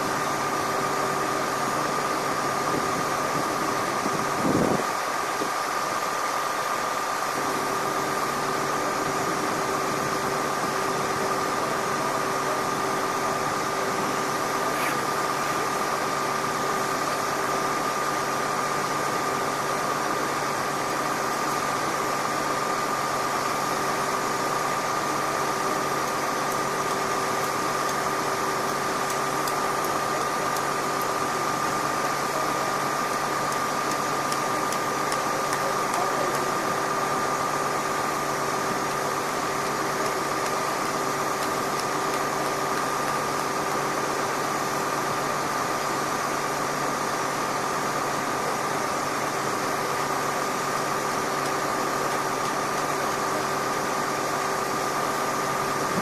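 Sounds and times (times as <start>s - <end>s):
constant high whine: 0.0s - 56.0s
idling machinery drone: 0.0s - 56.0s.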